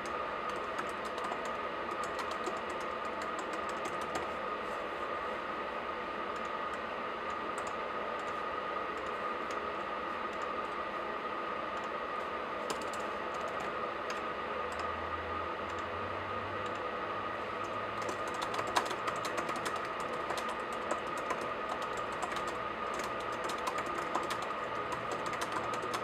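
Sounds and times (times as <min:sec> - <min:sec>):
laptop keyboard typing: 0:00.0 - 0:04.4, 0:06.3 - 0:10.8, 0:11.7 - 0:14.9, 0:15.7 - 0:15.9, 0:16.6 - 0:16.9, 0:17.5 - 0:26.0
faint hum: 0:00.0 - 0:26.0.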